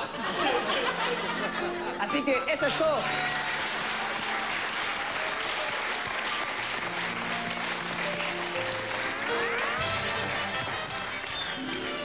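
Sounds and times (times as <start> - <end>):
background music with held notes: 0.1 - 4.7, 6.6 - 12.0
audience applauding: 2.2 - 12.0.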